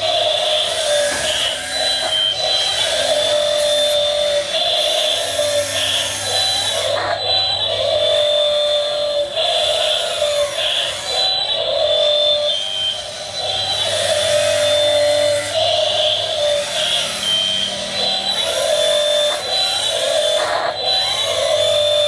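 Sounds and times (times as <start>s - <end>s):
toy excavator motors whining: 0.0s - 22.0s.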